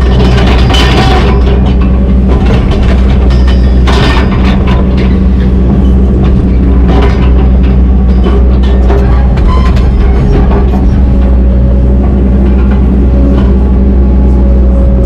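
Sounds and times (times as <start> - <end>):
bursts of clatter: 0.0 - 13.8
excavator diesel engine running: 0.0 - 15.0.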